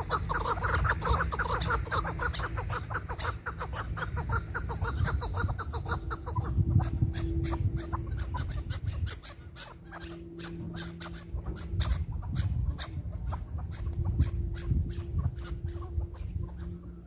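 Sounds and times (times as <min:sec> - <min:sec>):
low rumble: 0:00.0 - 0:17.0
partridge calling sharp notes: 0:00.0 - 0:17.0.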